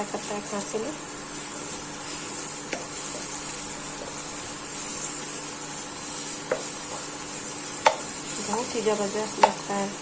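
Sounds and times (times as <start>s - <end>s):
spices sizzling in a pan: 0.0s - 10.0s.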